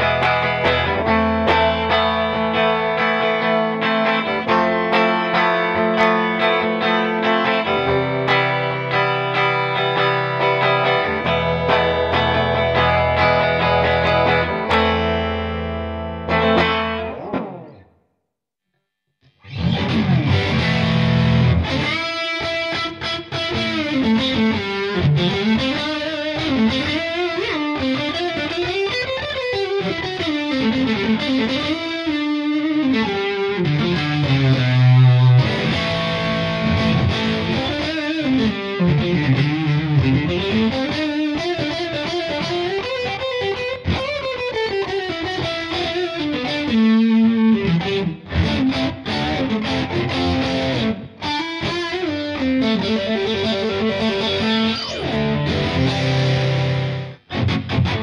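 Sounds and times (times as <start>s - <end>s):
distorted electric guitar: 0.0s - 18.0s, 19.2s - 58.0s.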